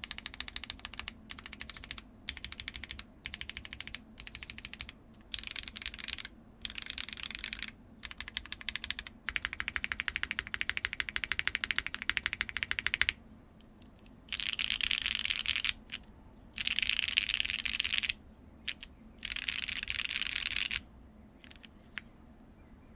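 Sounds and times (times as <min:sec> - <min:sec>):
mechanical keyboard typing: 0:00.0 - 0:13.2, 0:13.9 - 0:16.0, 0:16.6 - 0:20.8, 0:21.4 - 0:21.7.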